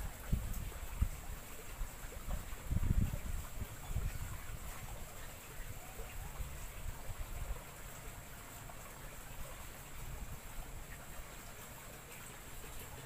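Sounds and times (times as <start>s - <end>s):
creek running: 0.0s - 13.0s.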